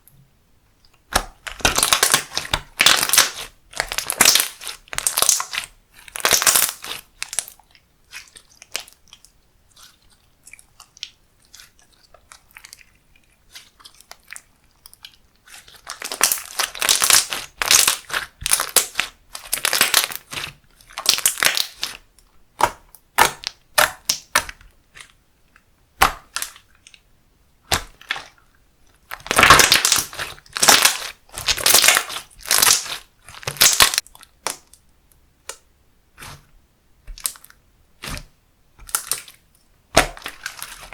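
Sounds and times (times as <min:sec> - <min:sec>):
hands squishing slime: 0:00.9 - 0:25.2, 0:25.9 - 0:27.0, 0:27.6 - 0:34.8, 0:35.4 - 0:40.9.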